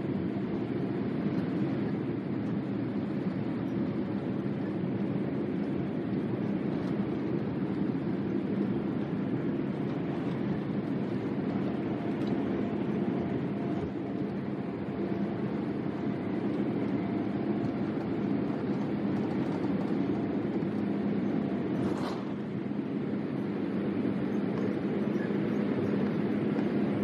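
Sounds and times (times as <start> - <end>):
faint steady whine: 0.0 - 27.0
jet engines rumbling in cabin: 0.0 - 27.0.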